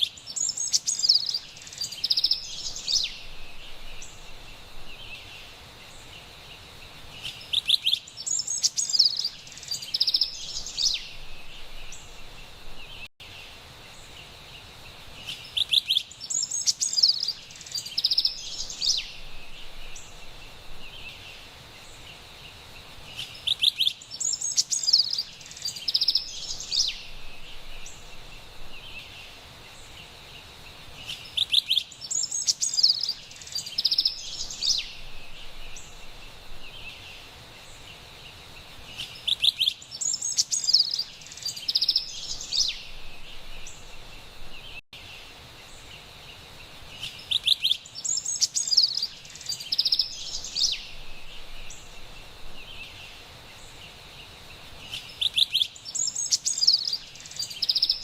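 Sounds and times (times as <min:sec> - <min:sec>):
wren singing: 0:00.0 - 0:13.1, 0:15.2 - 0:22.3, 0:23.0 - 0:30.2, 0:30.9 - 0:45.9, 0:46.6 - 0:58.0
soft steady background hiss: 0:00.0 - 0:58.0.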